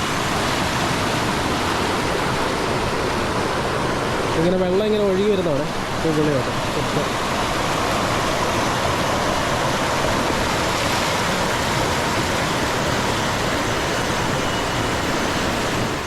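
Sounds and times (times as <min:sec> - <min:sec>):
waterfall rushing over rock: 0:00.0 - 0:16.0.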